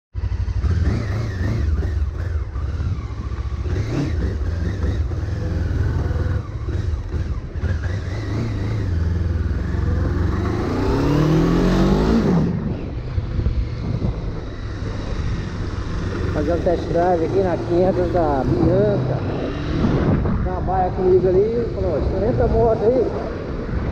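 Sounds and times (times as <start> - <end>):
motorcycle engine accelerating: 0.1 - 23.9.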